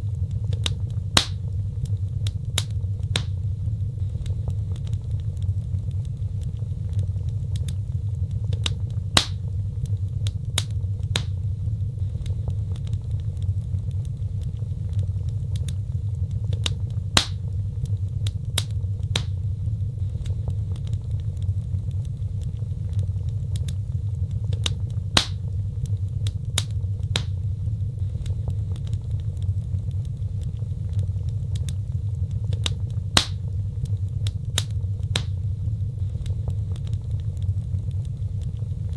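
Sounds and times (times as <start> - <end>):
low rumble: 0.0 - 38.9
wood fire crackling: 0.0 - 38.9.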